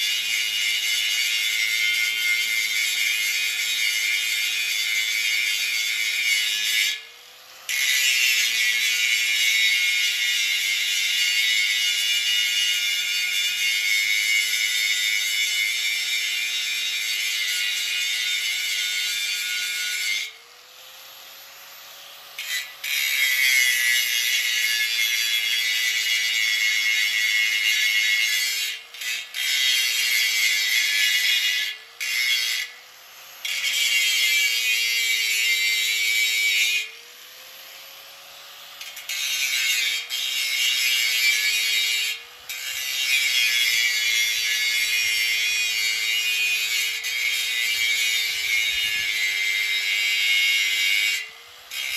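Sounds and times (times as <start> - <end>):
angle grinder grinding metal: 0.0 - 51.9.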